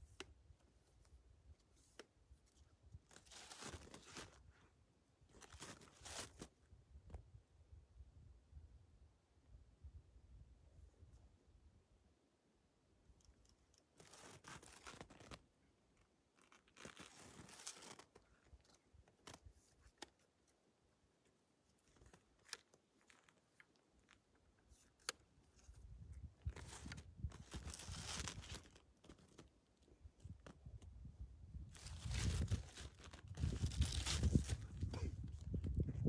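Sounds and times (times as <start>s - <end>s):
faint crunching and rustling: 0.0s - 7.3s, 13.1s - 36.0s.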